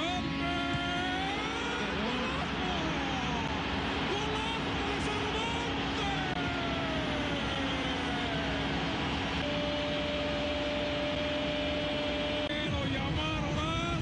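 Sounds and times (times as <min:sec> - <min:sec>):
held horn tones: 0:00.0 - 0:13.5
stadium crowd cheering: 0:00.0 - 0:14.0.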